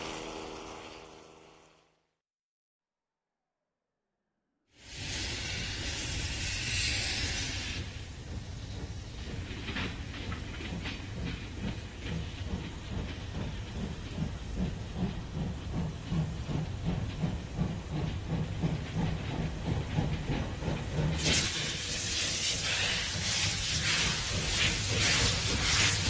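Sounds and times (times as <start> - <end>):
steam hissing: 4.8 - 26.0
steam locomotive chuffing: 4.8 - 26.0.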